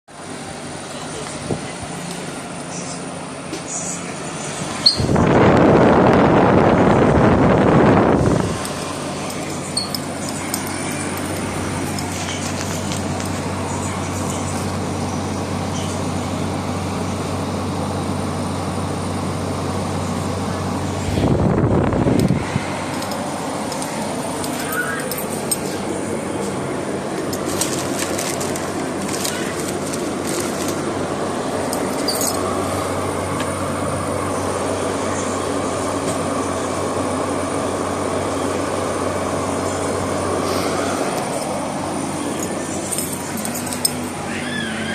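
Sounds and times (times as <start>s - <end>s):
air conditioner fan whoosh: 0.1s - 44.9s.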